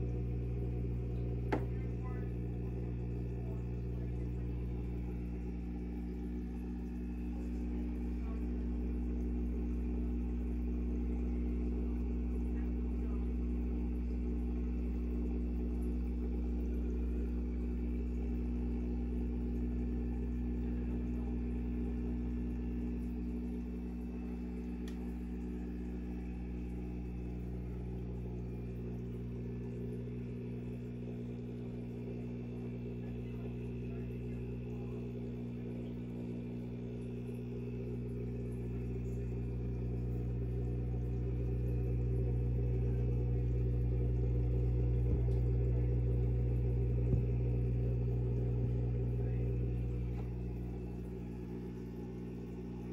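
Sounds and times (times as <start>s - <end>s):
aquarium air pump humming: 0.0s - 52.9s.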